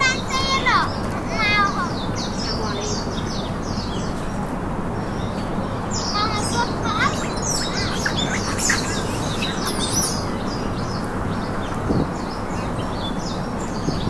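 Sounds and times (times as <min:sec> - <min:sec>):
birds chirping: 0:00.0 - 0:14.0
steady background noise: 0:00.0 - 0:14.0.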